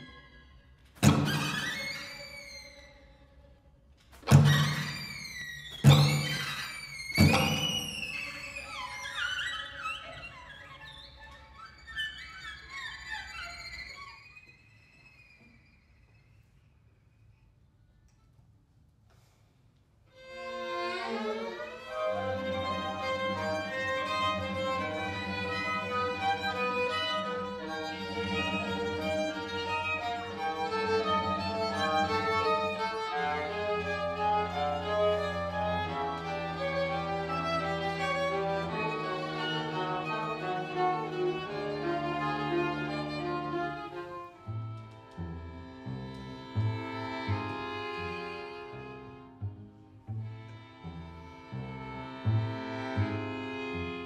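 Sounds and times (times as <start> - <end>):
string quartet playing: 0.0 - 15.6, 20.1 - 54.0.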